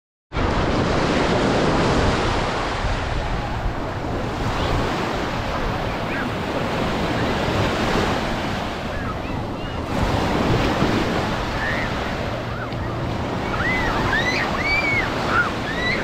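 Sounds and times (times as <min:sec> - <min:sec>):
wind buffeting microphone: 0:00.4 - 0:16.0.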